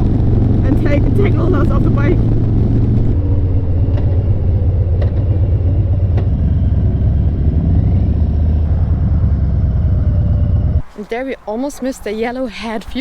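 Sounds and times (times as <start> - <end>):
motorcycle cruising rumble: 0.0 - 11.7.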